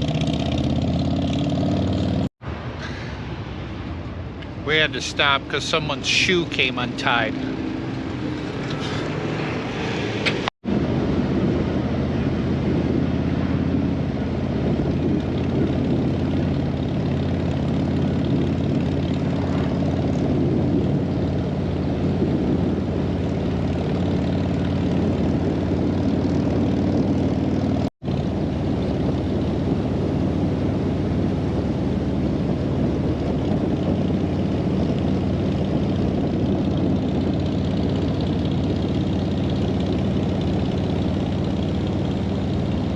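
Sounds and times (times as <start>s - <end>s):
motorcycle running: 0.0s - 3.0s, 3.8s - 42.9s
wind rushing over camera: 0.0s - 42.9s.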